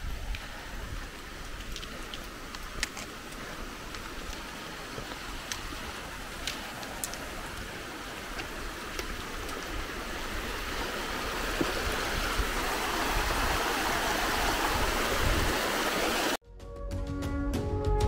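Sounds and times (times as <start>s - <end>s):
stream rushing over rocks: 0.0s - 16.4s.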